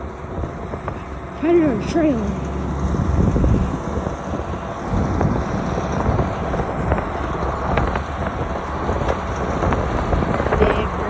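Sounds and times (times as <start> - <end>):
farm vehicle engine running: 0.0 - 11.0
wind buffeting microphone: 0.0 - 11.0.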